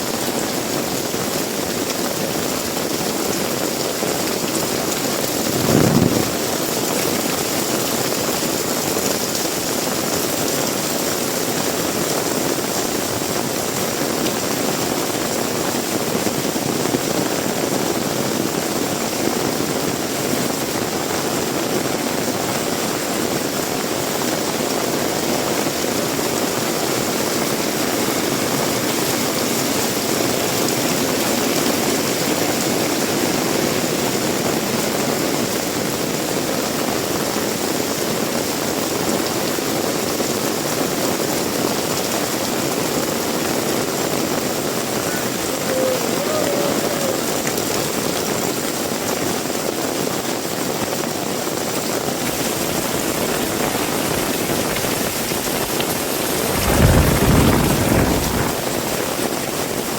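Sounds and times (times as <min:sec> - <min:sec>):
heavy rain with wind: 0:00.0 - 0:59.9.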